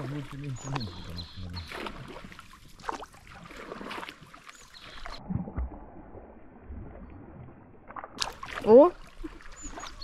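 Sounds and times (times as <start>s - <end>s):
paddle splashing in water: 0.0s - 10.0s
water moving along hull: 0.0s - 10.0s.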